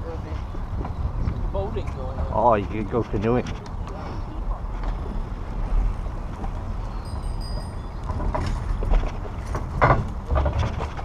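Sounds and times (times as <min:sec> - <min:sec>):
tyres on paved path: 0:00.0 - 0:11.0
wind rumbling on microphone: 0:00.0 - 0:11.0.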